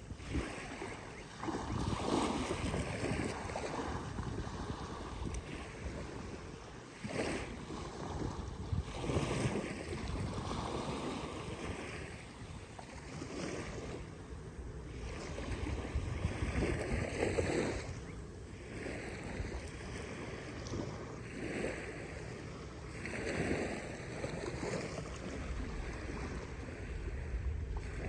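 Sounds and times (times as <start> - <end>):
waves breaking on beach: 0.0 - 28.0
wind rumbling on microphone: 0.0 - 28.0.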